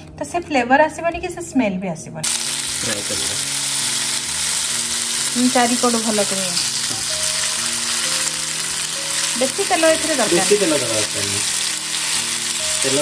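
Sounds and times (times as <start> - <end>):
food sizzling in a pan: 2.2 - 13.0.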